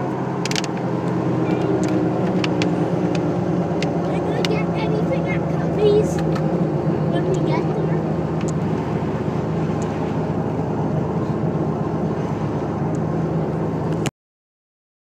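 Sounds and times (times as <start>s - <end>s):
car engine hum: 0.0s - 14.1s.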